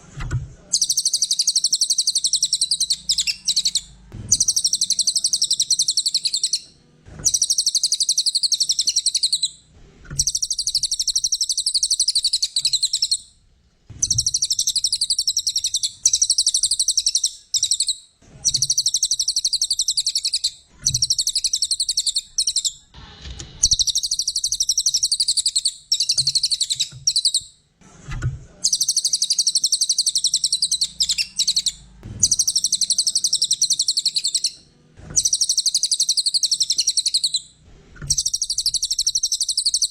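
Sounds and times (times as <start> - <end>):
songbird trilling: 0.8 - 6.6, 7.3 - 9.6, 10.2 - 13.2, 14.0 - 22.8, 23.6 - 27.4, 28.7 - 34.6, 35.2 - 37.4, 38.1 - 39.9.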